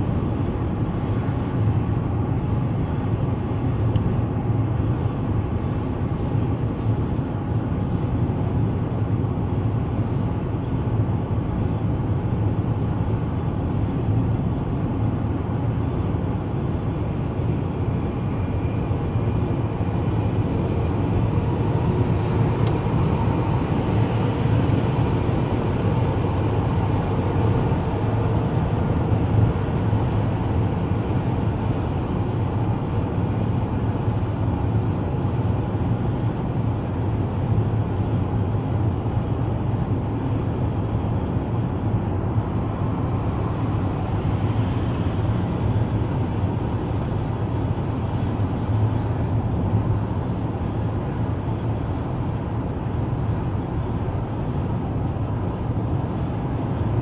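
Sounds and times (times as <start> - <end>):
car engine hum: 0.0 - 57.0
road and tyre noise: 0.0 - 57.0.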